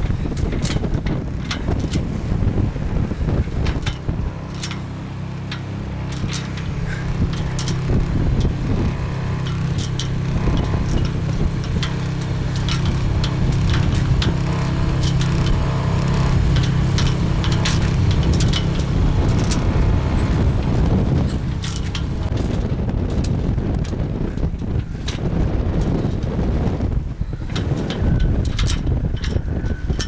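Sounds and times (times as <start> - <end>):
crackles of wind and spray: 0.0 - 30.0
outboard motor running: 0.0 - 30.0.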